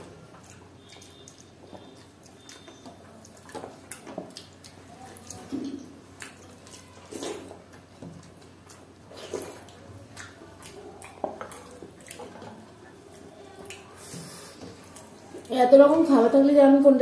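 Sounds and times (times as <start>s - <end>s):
mouth sounds of eating: 0.0s - 15.5s.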